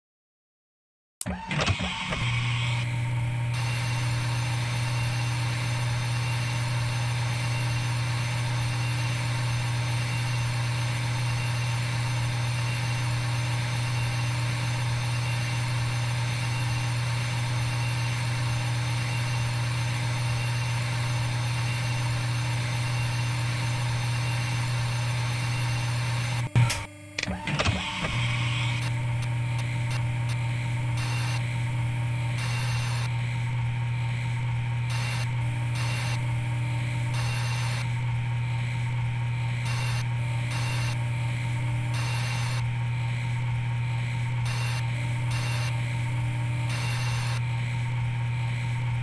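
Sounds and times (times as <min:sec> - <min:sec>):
low machine hum: 0:01.5 - 0:49.0.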